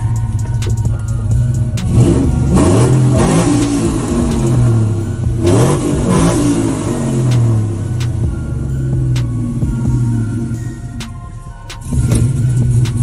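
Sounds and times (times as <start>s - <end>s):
vehicle engine revving: 0.0s - 10.6s, 11.8s - 13.0s.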